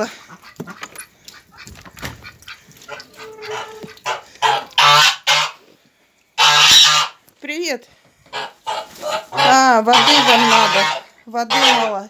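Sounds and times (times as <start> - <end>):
geese honking: 0.0 - 5.6, 6.4 - 7.2, 8.3 - 12.0.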